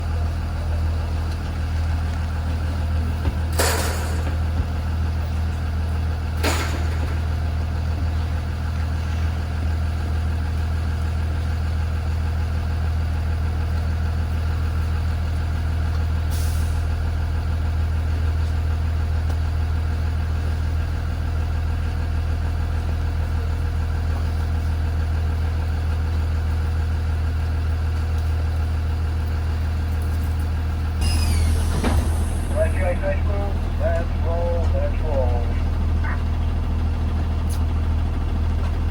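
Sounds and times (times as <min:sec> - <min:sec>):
bus engine idling: 0:00.0 - 0:38.9.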